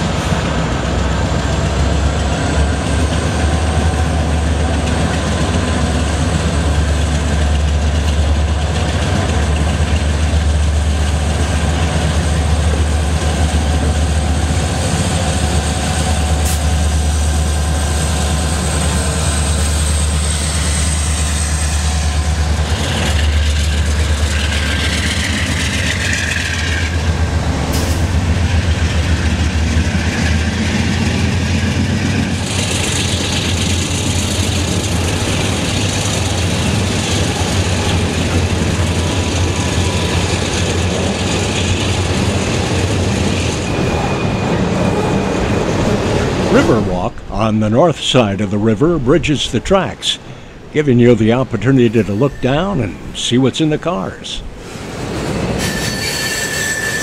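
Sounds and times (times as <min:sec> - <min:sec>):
diesel locomotive engine drone: 0:00.0 - 0:57.0
freight cars rolling: 0:00.0 - 0:57.0.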